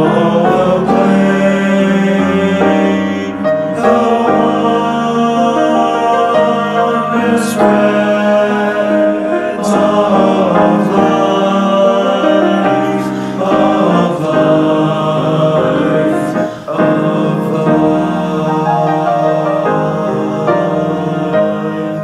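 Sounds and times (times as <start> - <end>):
choir singing sustained chords: 0.0 - 22.0.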